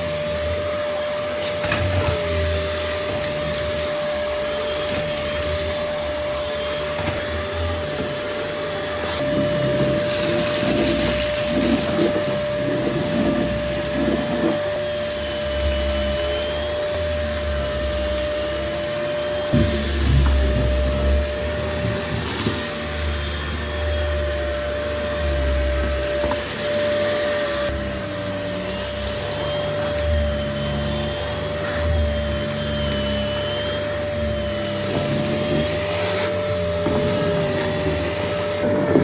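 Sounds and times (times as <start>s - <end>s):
vacuum cleaner motor whine: 0.0s - 39.0s
debris rattling in vacuum: 0.2s - 39.0s.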